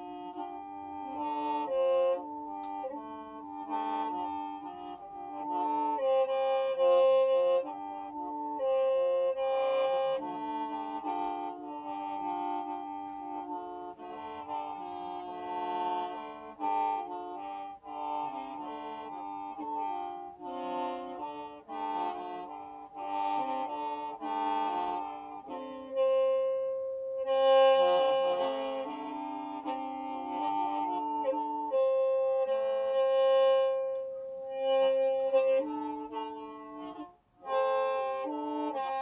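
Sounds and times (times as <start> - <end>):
bamboo mouth organ playing: 0.0 - 39.0.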